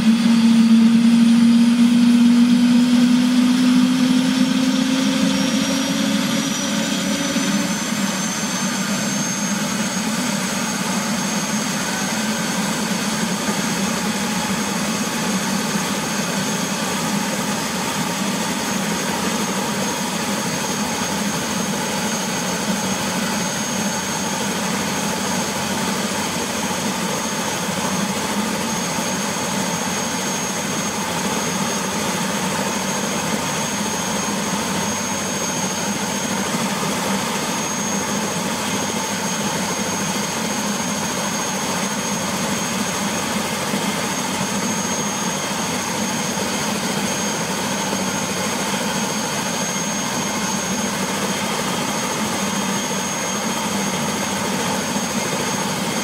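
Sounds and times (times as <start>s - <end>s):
helicopter engine and rotor: 0.0s - 56.0s
high turbine whine: 0.0s - 56.0s.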